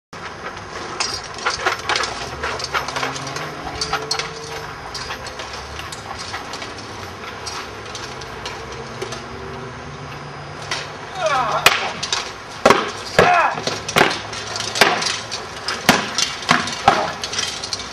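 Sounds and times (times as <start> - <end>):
armour and weapons clinking: 0.8 - 9.3, 10.6 - 17.9.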